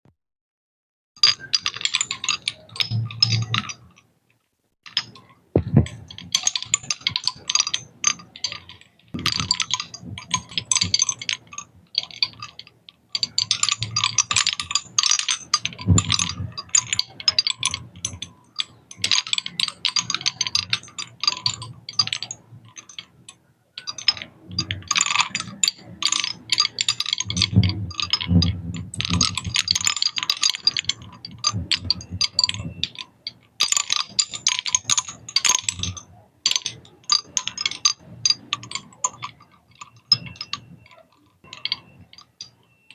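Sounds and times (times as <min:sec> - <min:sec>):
seashell mobile clinking: 0:01.2 - 0:04.1, 0:04.9 - 0:42.9.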